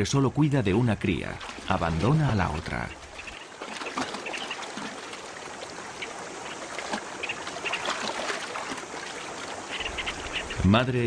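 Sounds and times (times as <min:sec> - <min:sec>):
river water splashing and lapping: 0:00.0 - 0:11.0.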